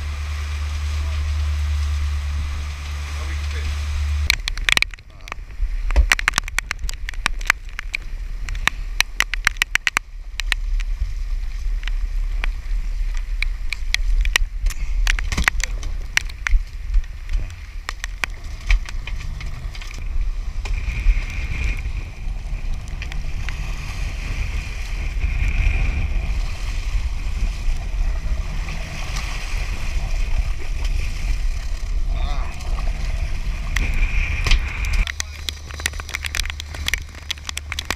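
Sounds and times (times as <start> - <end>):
water rushing alongside boat: 0.0 - 37.9
wind buffeting microphone: 3.8 - 37.9.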